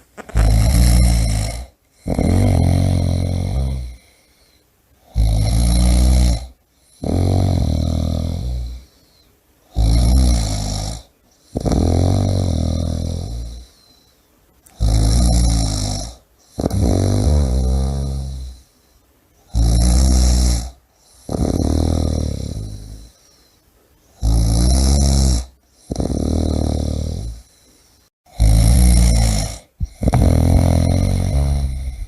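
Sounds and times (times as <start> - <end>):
person snoring loudly: 0.2 - 4.2, 5.0 - 8.9, 9.7 - 13.8, 14.7 - 18.7, 19.5 - 23.2, 24.2 - 27.6, 28.3 - 32.0.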